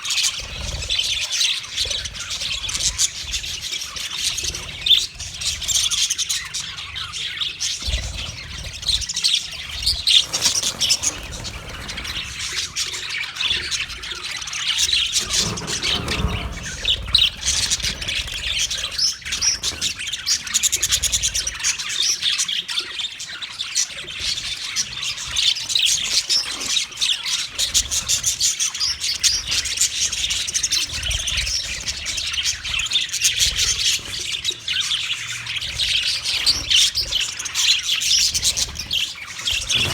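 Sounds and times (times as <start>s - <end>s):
budgerigars chirping: 0.1s - 39.9s.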